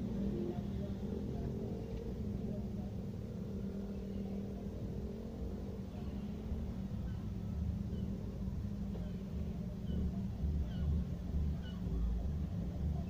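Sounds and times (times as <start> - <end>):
cars moving slowly past: 0.0 - 13.0.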